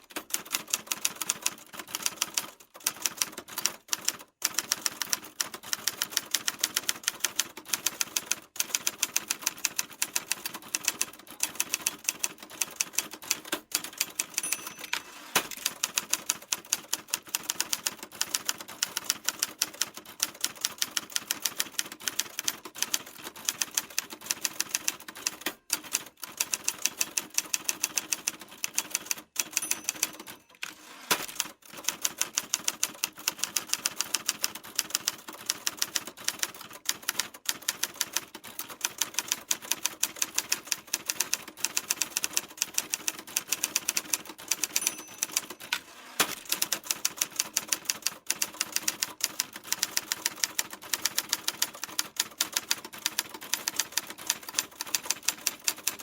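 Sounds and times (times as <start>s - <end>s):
typewriter keys clacking: 0.0s - 56.0s.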